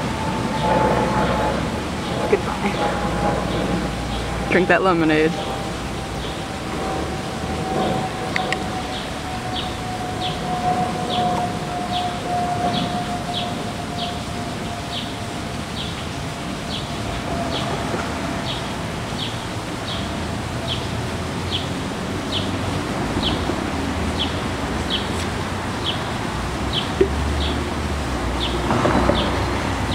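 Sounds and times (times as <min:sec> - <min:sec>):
low traffic rumble: 0:00.0 - 0:29.9.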